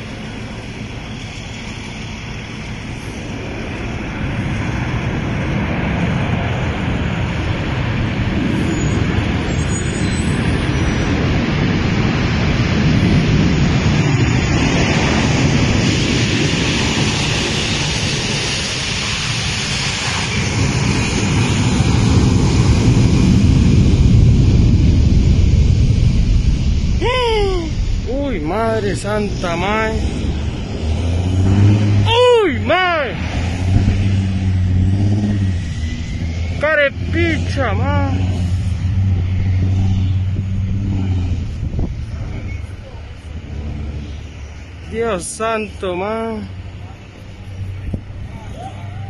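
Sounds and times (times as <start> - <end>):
wind buffeting microphone: 0.0 - 45.1
jet engines rumbling: 0.0 - 49.0.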